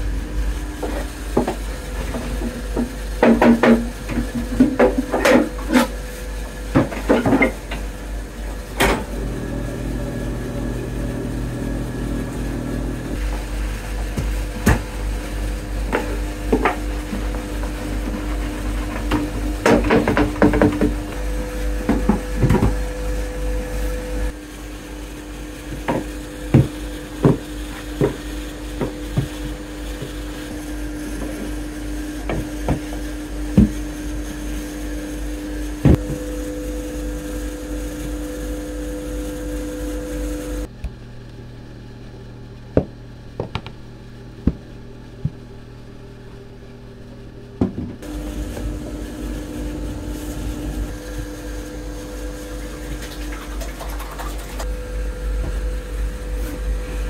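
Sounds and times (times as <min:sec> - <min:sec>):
electric motor hum: 0:00.0 - 0:53.4, 0:54.4 - 0:57.0.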